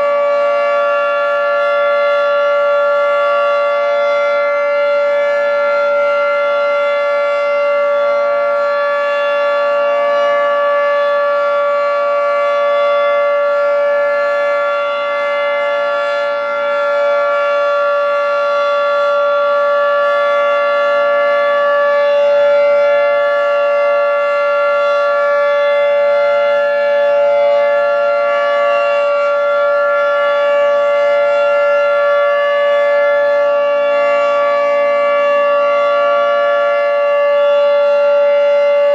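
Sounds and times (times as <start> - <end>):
warning siren steady chord: 0.0 - 38.9.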